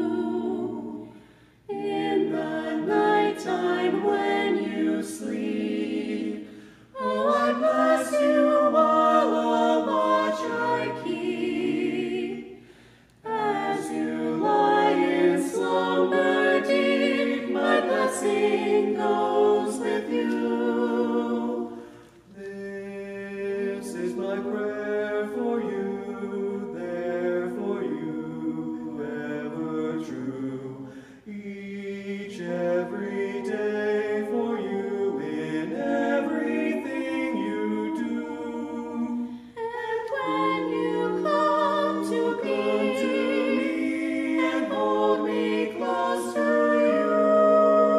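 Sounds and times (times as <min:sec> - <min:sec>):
vocal quartet singing a cappella: 0:00.0 - 0:47.9.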